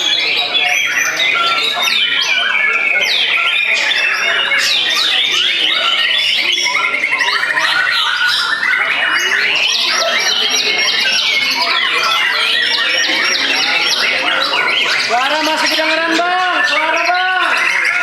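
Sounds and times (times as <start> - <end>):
birds singing: 0.0 - 18.0
rapid bird trill: 0.0 - 18.0.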